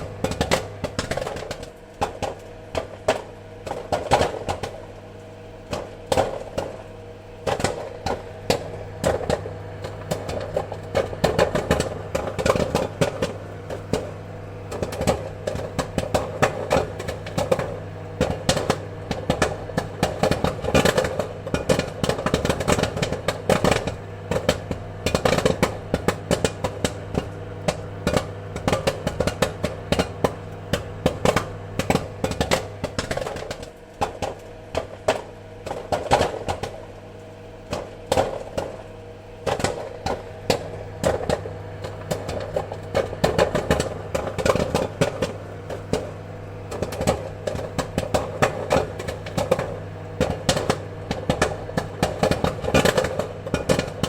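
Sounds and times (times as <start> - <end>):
popcorn popping: 0.0 - 54.0
steady low hum: 0.0 - 54.0.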